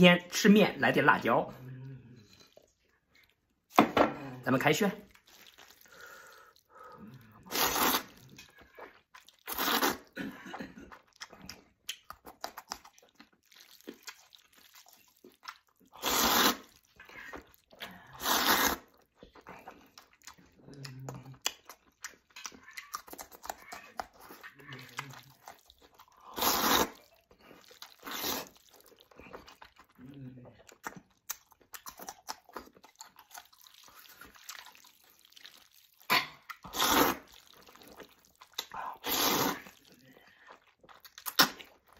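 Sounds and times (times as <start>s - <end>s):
chewing: 1.5s - 3.8s, 4.9s - 41.9s
noodle slurping: 5.1s - 10.2s, 10.9s - 30.0s, 30.7s - 41.9s.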